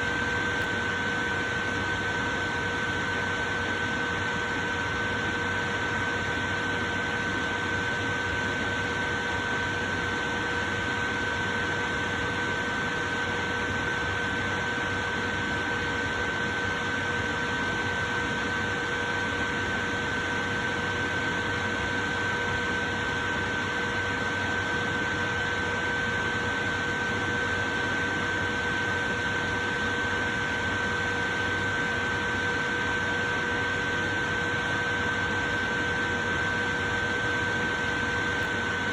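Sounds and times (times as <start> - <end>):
electric fan running: 0.0 - 38.9.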